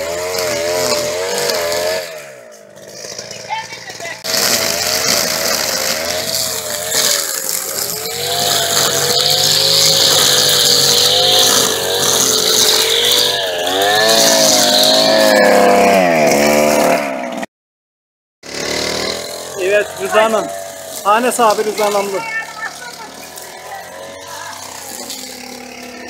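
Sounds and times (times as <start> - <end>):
string trimmer engine revving: 0.0 - 17.5, 18.4 - 26.0.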